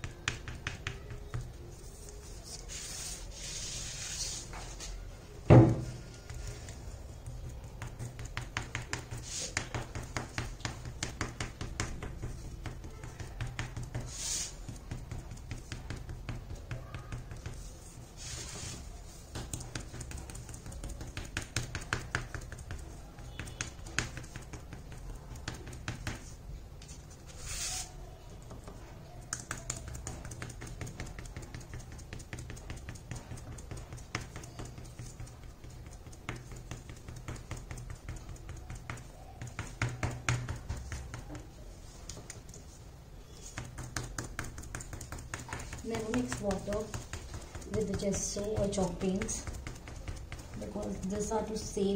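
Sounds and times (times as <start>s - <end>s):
sponge dabbing soft taps: 0.0s - 51.9s.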